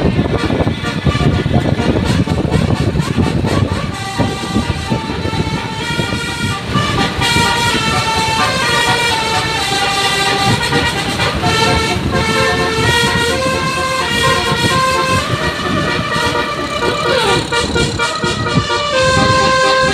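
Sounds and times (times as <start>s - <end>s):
bus horn playing a tune: 0.0s - 19.9s
engine and traffic rumble: 0.0s - 19.9s.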